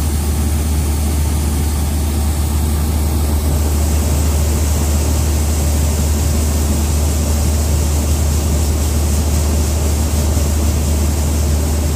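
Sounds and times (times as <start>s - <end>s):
combine harvester engine hum: 0.0s - 11.9s.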